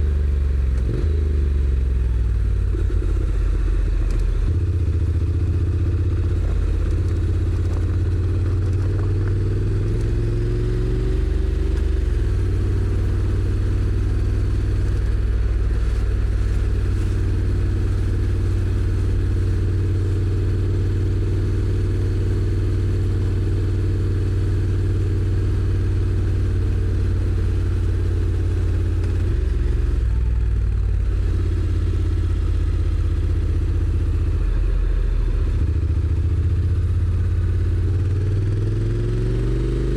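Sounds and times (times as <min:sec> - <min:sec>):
motorcycle engine pulling away: 0:00.0 - 0:39.9.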